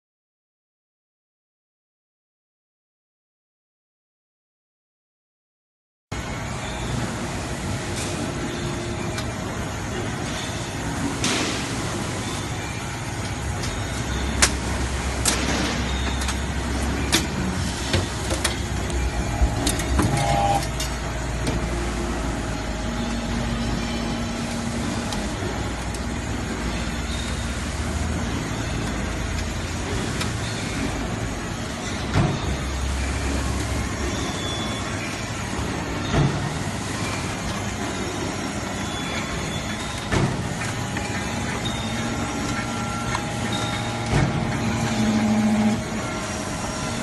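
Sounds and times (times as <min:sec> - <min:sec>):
baling press machine hum: 0:06.1 - 0:47.0.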